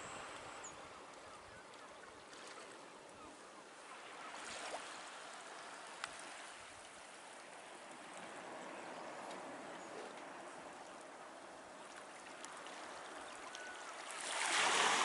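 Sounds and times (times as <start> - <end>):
small waves lapping rocks: 0.0 - 15.0.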